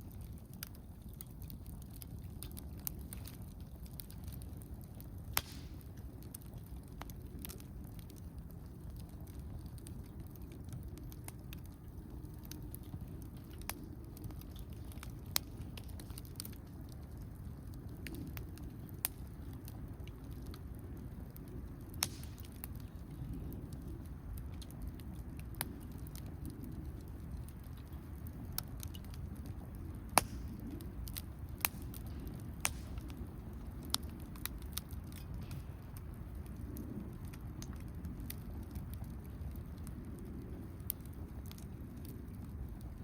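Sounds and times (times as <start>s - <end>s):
campfire crackling and popping: 0.0s - 43.0s
low steady background rush: 0.0s - 43.0s.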